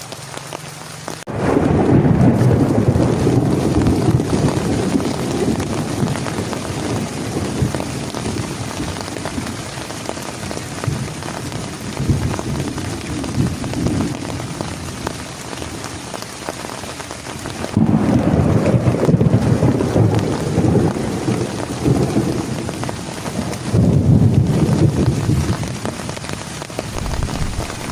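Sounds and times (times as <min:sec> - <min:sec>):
heavy rain falling: 0:00.0 - 0:27.9
thunder rumbling: 0:01.3 - 0:15.9, 0:17.4 - 0:27.9.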